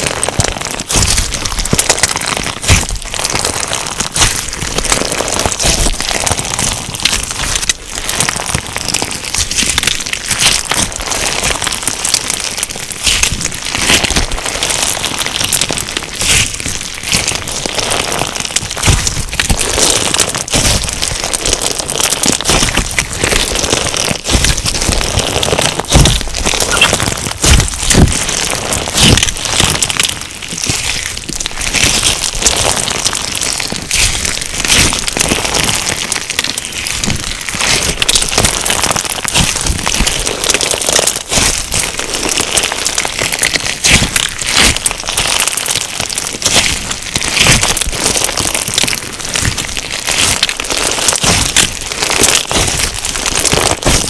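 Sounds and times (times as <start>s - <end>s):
crunchy slime crackling: 0.0s - 54.0s.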